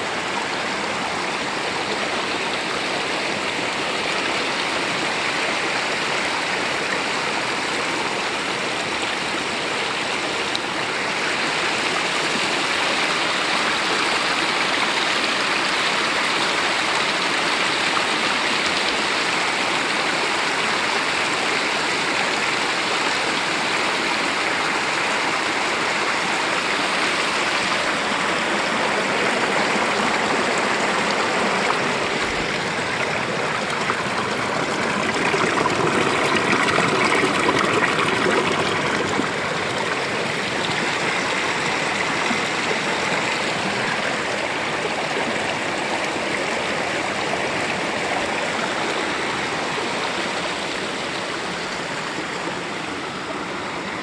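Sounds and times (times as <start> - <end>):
creek water rushing over boulders: 0.0 - 54.0.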